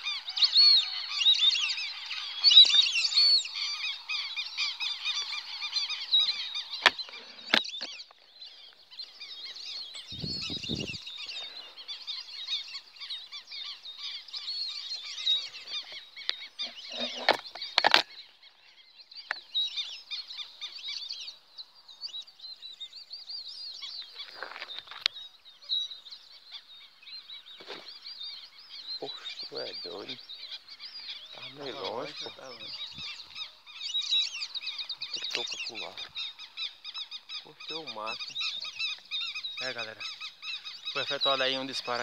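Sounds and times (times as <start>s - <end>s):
birds chirping and whistling: 0.0s - 42.0s.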